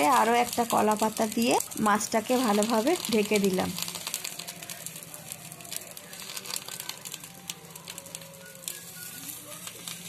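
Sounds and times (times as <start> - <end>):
fish sizzling in a frying pan: 0.0 - 10.0.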